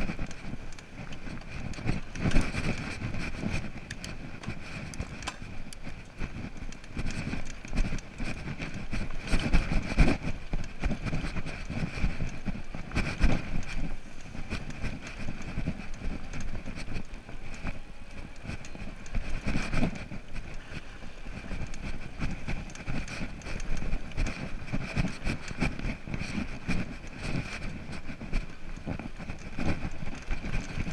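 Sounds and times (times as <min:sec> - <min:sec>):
tyres rumbling on dirt trail: 0:00.0 - 0:30.9
wind noise on microphone: 0:00.0 - 0:30.9.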